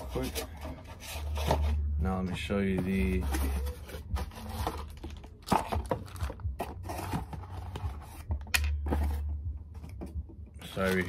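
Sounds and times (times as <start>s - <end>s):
cardboard rustling and scraping: 0.0s - 11.0s.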